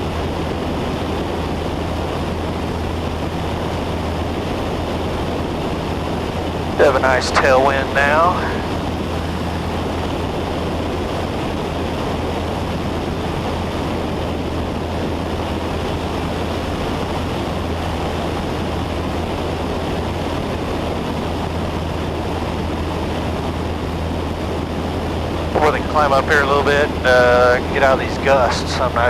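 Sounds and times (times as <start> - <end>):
airplane engine drone: 0.0 - 29.0
wind and airflow noise: 0.0 - 29.0.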